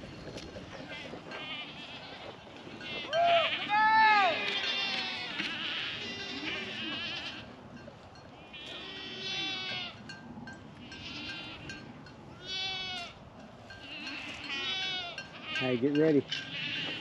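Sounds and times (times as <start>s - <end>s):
goats bleating: 0.7s - 7.6s, 8.3s - 10.0s, 10.7s - 17.0s.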